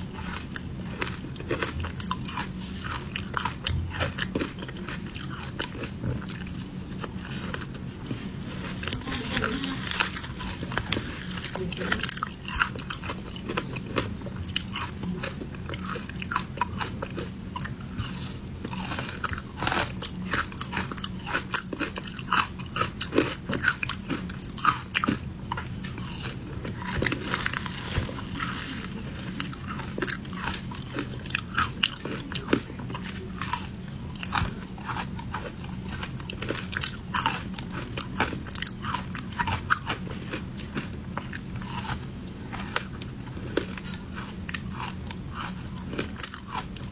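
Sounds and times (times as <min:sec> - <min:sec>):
ice crunching while chewing: 0:00.0 - 0:46.9
steady low hum: 0:00.0 - 0:46.9.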